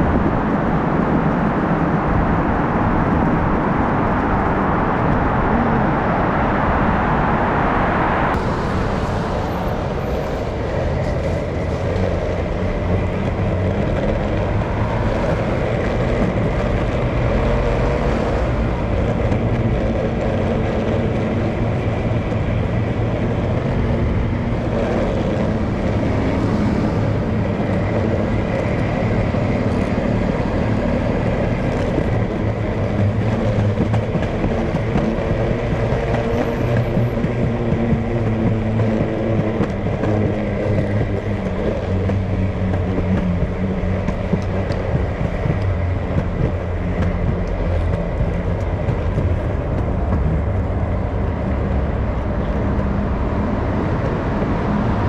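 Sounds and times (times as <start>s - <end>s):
traffic rumble with road hiss: 0.0s - 55.0s.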